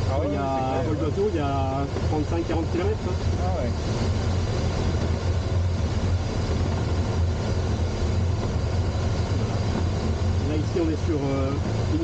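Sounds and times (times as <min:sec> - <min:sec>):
low hum: 0:00.0 - 0:12.0
rush of airflow: 0:00.0 - 0:12.0.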